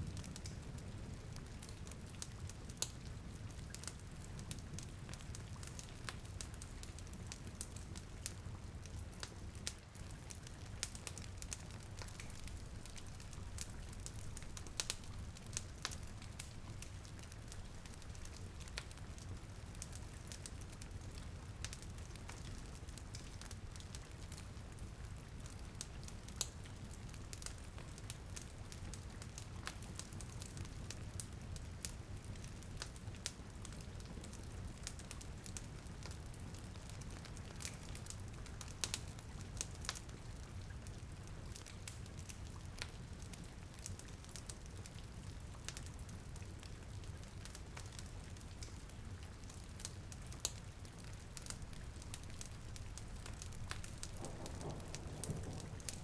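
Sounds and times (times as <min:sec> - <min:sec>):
burning wood crackling: 0:00.0 - 0:56.0
rain hiss: 0:02.3 - 0:56.0.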